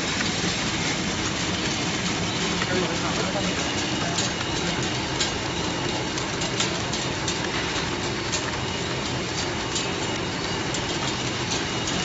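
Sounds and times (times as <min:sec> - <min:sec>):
packaging machine humming: 0:00.0 - 0:12.0.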